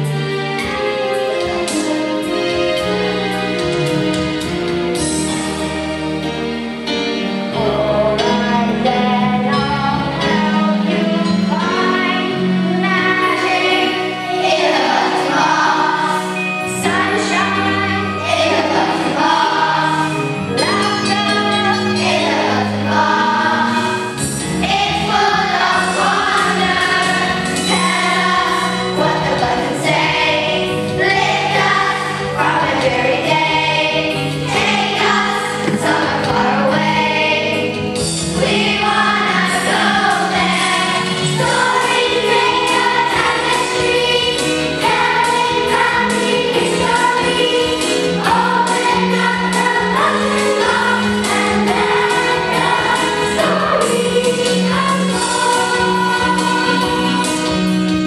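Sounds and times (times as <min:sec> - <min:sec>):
instrumental accompaniment: 0:00.0 - 0:58.0
children singing: 0:07.5 - 0:58.0.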